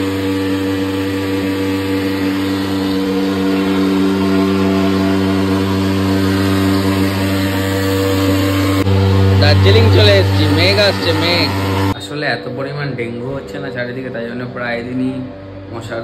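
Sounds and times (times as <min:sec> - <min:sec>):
fogging machine engine drone: 0:00.0 - 0:16.0.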